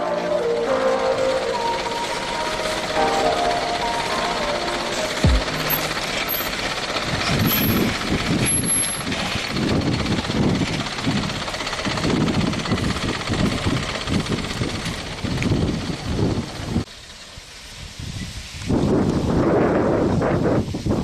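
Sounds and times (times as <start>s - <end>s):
heavy truck engine labouring: 0.0s - 17.6s.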